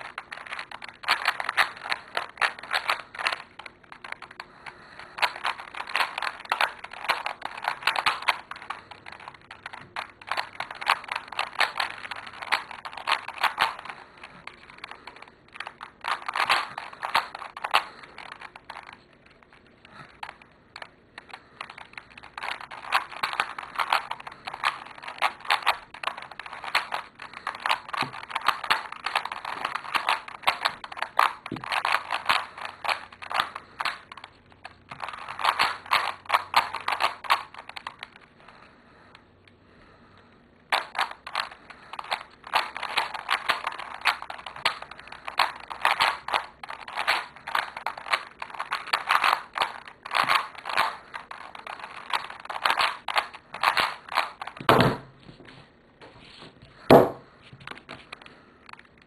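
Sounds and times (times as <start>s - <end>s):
plastic puzzle cube clicking: 0.0s - 38.3s, 40.7s - 55.0s.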